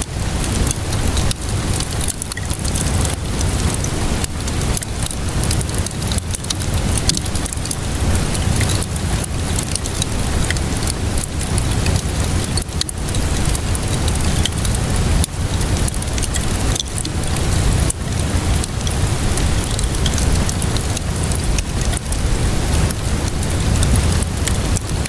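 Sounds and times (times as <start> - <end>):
steady rainfall: 0.0 - 25.0
wood fire crackling: 0.0 - 25.0.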